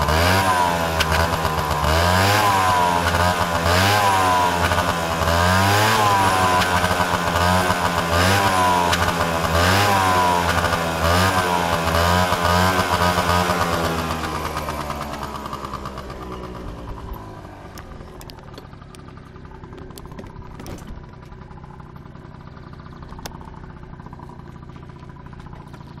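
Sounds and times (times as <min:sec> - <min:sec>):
scooter engine revving: 0:00.0 - 0:26.0.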